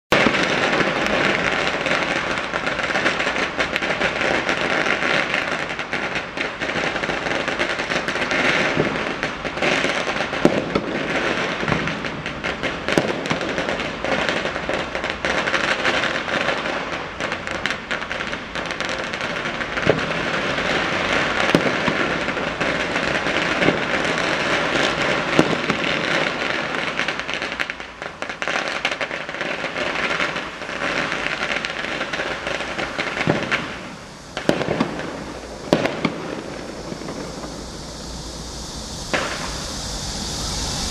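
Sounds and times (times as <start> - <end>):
firecrackers crackling: 0.1 - 40.9.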